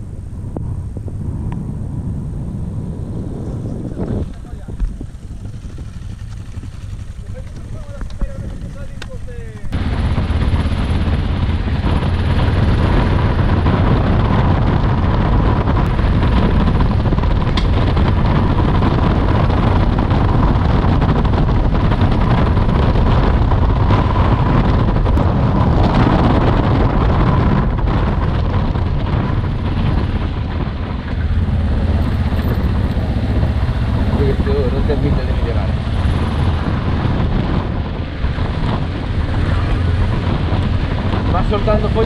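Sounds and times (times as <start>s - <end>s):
motorcycle engine running: 0.0s - 42.0s
wind rushing over microphone: 0.0s - 42.0s.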